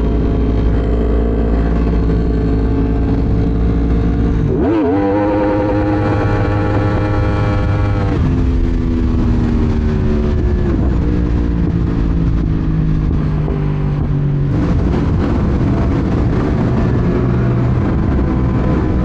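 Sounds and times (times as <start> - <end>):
low wind rush: 0.0 - 19.0
motorcycle engine: 0.0 - 19.0.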